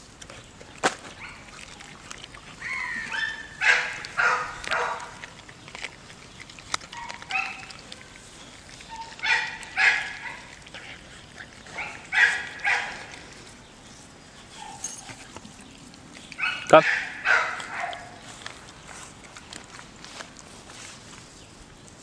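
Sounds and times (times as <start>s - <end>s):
dog chewing: 0.0s - 22.0s.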